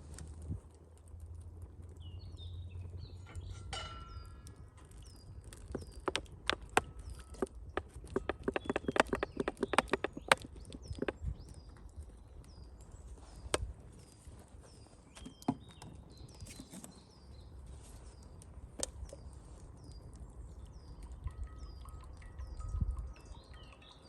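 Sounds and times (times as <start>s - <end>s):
small bird chirping: 2.0s - 24.0s.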